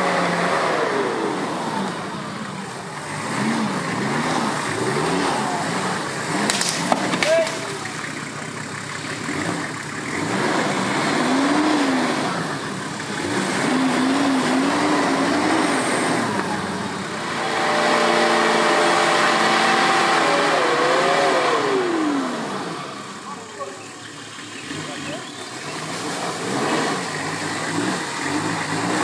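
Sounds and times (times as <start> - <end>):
off-road vehicle engine revving: 0.0 - 29.0.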